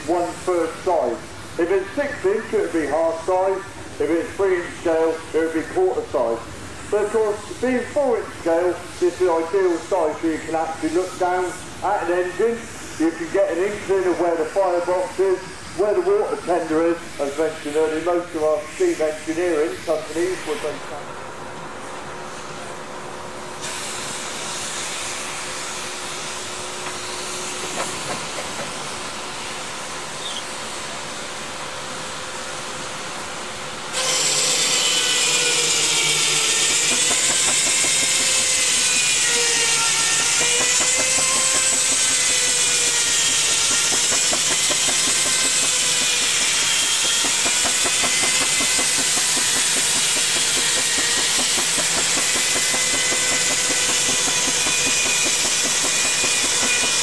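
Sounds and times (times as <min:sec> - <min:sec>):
steam engine hissing: 0:00.0 - 0:57.0.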